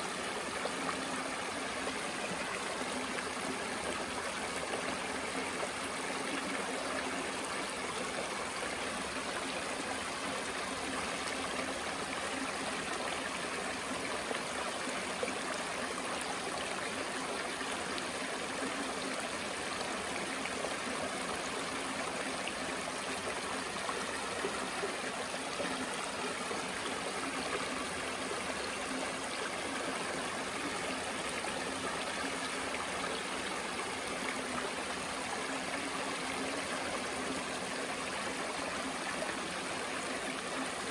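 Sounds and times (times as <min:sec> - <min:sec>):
creek water running over rocks: 0:00.0 - 0:40.9.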